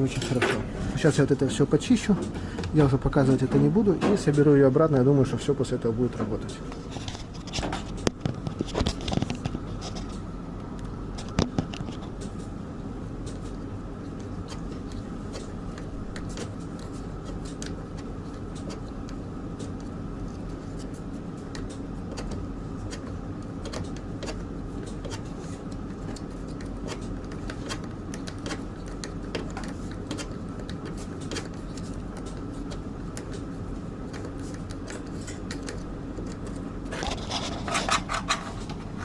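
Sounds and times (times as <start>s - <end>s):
tumble dryer motor and fan hum: 0.0s - 39.0s.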